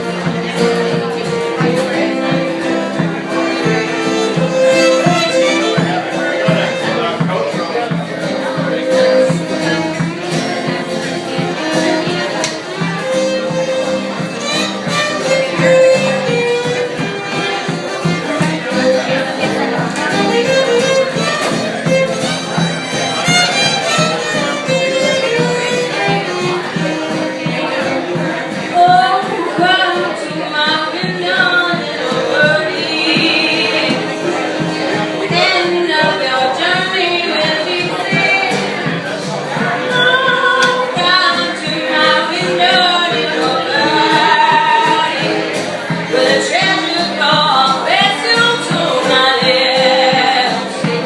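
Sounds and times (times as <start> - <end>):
fiddle solo: 0.0 - 51.0
live band accompaniment: 0.0 - 51.0.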